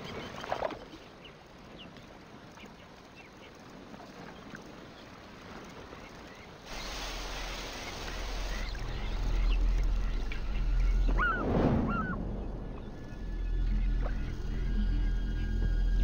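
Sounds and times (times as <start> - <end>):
birds chirping: 0.0 - 16.0
hiss and low rumble: 1.0 - 16.0.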